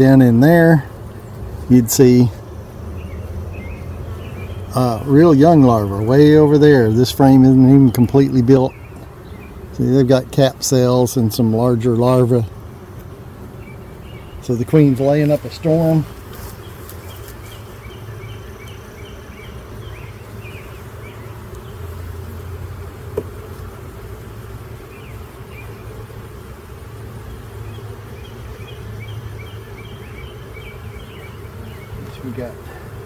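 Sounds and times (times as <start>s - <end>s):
bees buzzing: 0.0s - 33.0s.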